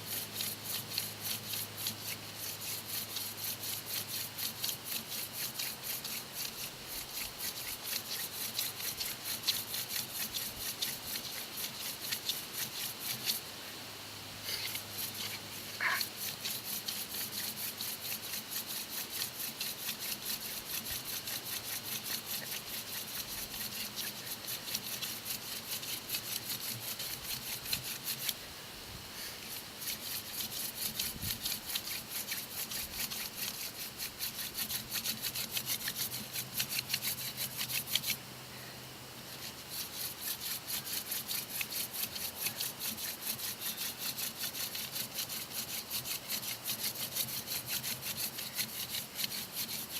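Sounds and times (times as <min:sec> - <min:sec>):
wood rasping on wood: 0:00.0 - 0:13.4, 0:14.5 - 0:28.4, 0:29.2 - 0:38.2, 0:39.3 - 0:49.9.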